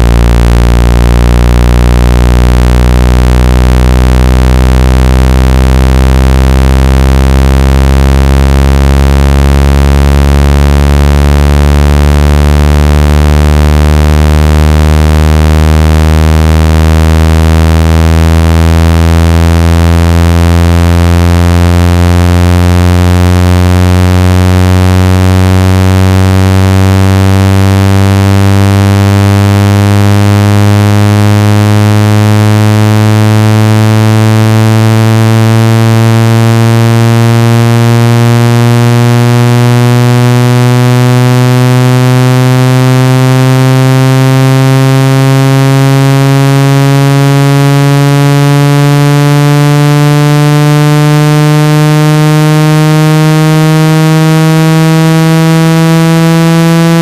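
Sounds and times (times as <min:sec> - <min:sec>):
synthesized low buzzing tone: 0:00.0 - 0:57.0.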